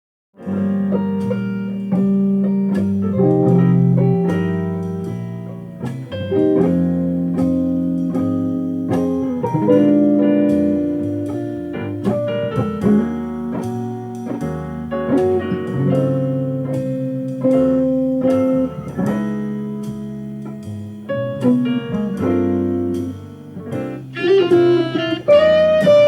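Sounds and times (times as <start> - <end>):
jazz guitar: 0.4 - 26.0.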